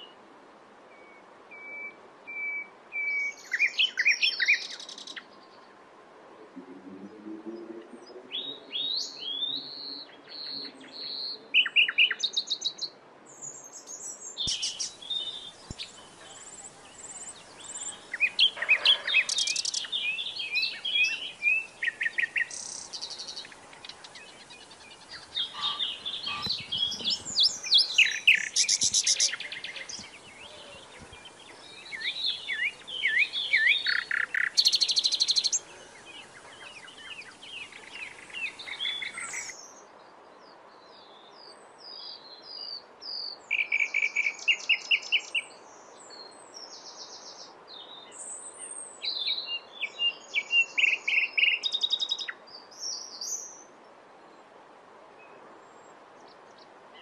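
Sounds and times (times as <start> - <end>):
softer bird song: 0.0 - 0.2, 0.9 - 5.8, 6.5 - 54.5
nightingale singing: 1.0 - 5.3, 8.0 - 39.8, 41.8 - 45.5, 46.6 - 53.7.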